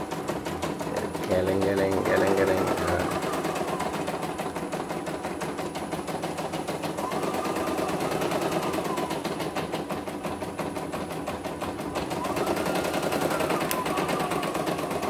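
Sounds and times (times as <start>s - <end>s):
embroidery machine needle clatter: 0.0s - 15.0s
faint motor whine: 0.0s - 15.0s.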